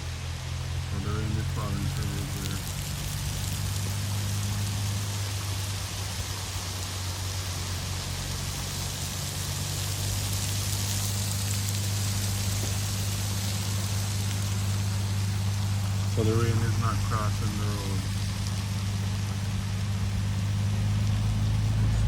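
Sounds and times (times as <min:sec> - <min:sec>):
heavy rain falling: 0:00.0 - 0:22.0
steady low hum: 0:00.0 - 0:22.0.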